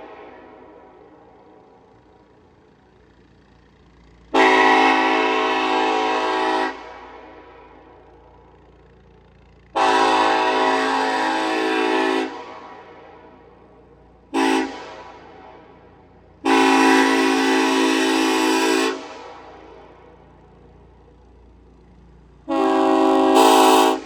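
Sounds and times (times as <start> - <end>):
train horn blasts: 0.0 - 2.0, 3.4 - 8.0, 8.6 - 13.6, 14.2 - 20.3, 22.4 - 24.0.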